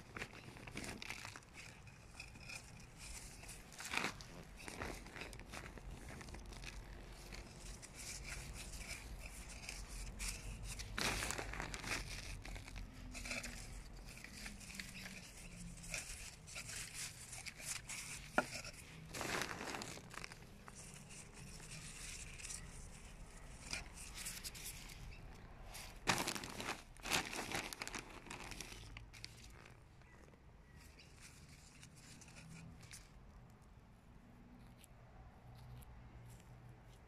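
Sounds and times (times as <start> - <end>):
plastic glove crinkling: 0.0 - 33.2.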